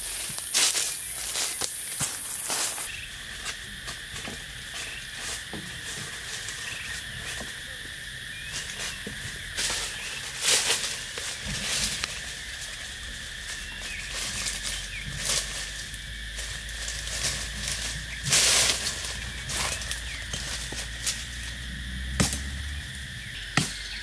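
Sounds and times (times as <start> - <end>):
footsteps in dry leaves: 0.0 - 22.0
insects buzzing and chirring: 0.0 - 24.0.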